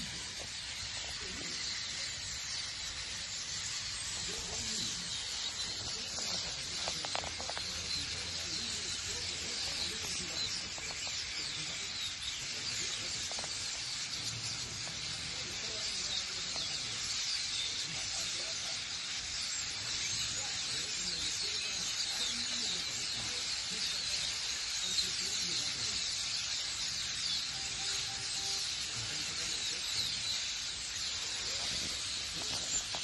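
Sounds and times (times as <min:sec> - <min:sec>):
starlings chattering: 0:00.0 - 0:33.0.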